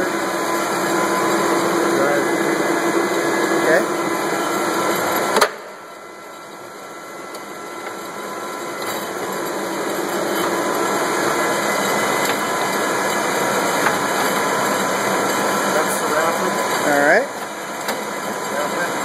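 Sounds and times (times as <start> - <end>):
lathe running: 0.0 - 19.0.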